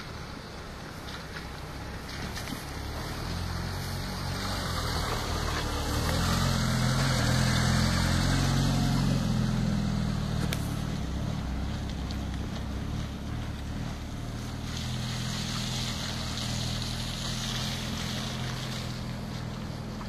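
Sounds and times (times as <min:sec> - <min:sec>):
car engine driving past: 0:01.3 - 0:20.0.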